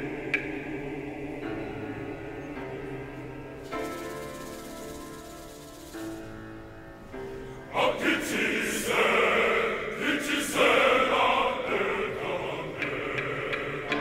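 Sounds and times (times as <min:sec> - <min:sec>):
choir singing in harmony: 0:00.0 - 0:05.6, 0:07.6 - 0:14.0.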